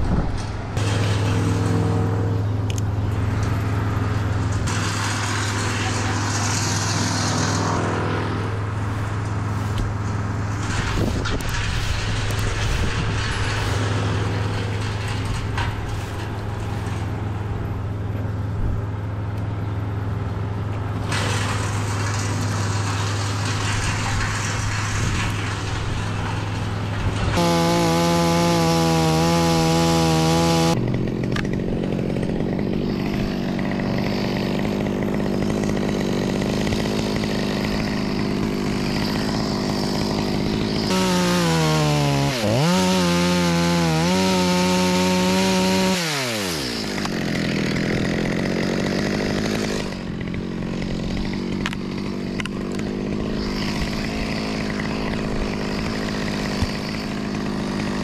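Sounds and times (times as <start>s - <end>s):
chainsaw cutting wood: 0.0s - 19.4s, 20.2s - 58.0s.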